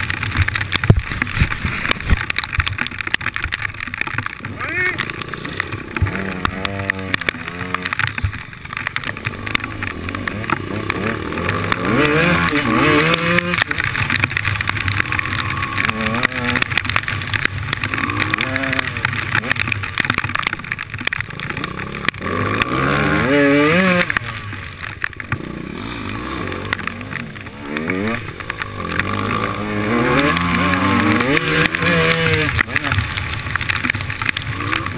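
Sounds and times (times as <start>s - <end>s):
dirt bike engine revving: 4.3s - 20.1s, 21.1s - 34.9s.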